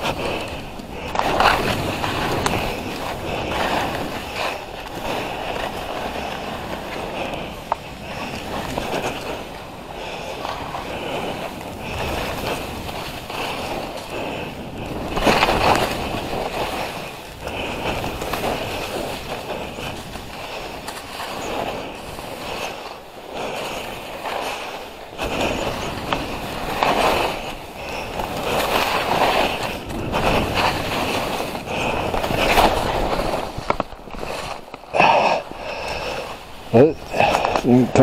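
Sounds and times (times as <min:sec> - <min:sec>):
skis scraping through snow: 0:00.0 - 0:38.0.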